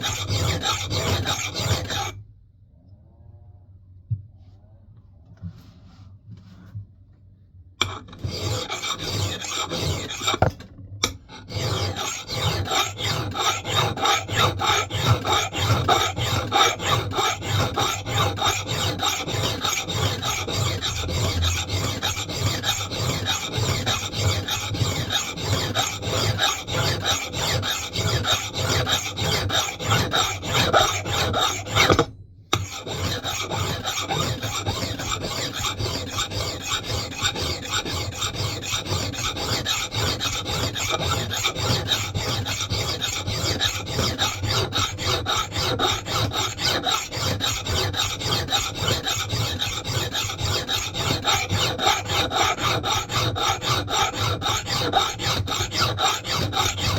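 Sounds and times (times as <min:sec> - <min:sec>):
metal file rasping on axe head: 0:00.0 - 0:02.2, 0:07.8 - 0:56.9.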